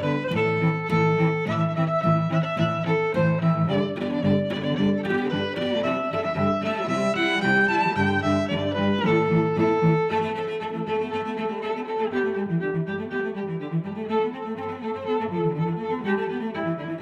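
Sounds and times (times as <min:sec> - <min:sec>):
string instrumental music: 0:00.0 - 0:17.0.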